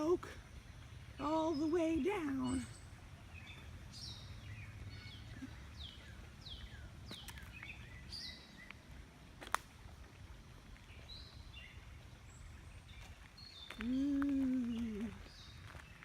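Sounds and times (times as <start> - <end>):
birds chirping: 0.0 - 9.1, 10.4 - 16.0.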